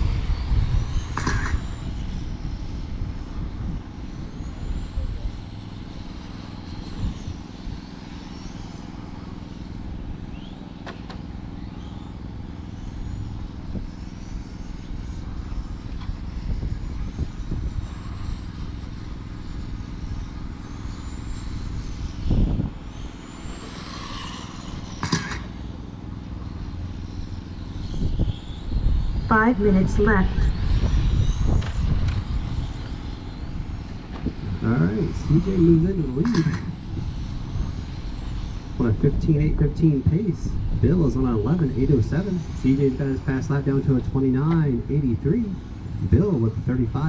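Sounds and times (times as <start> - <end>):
rc car motors whining: 0.0 - 47.0
steady low hum: 0.0 - 47.0.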